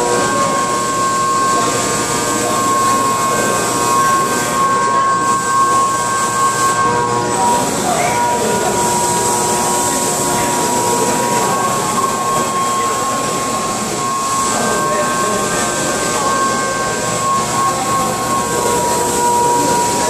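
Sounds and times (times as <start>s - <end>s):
milling machine cutting metal: 0.0s - 20.0s
spindle whine: 0.0s - 20.0s.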